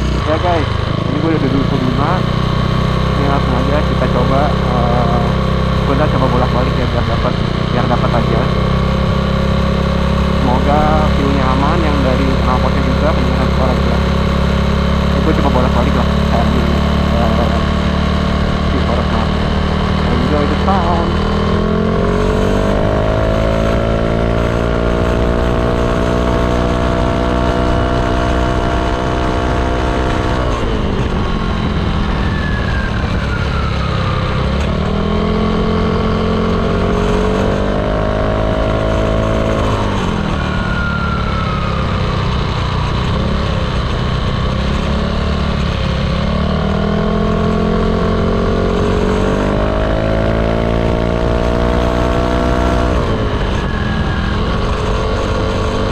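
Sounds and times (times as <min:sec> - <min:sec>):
scooter engine revving: 0:00.0 - 0:55.9.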